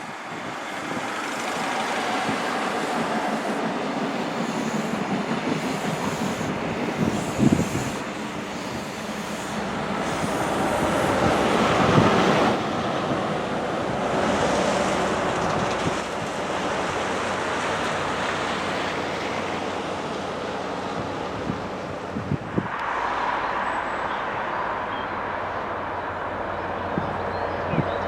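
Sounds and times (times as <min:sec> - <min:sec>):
train passing close by: 0:00.0 - 0:28.0.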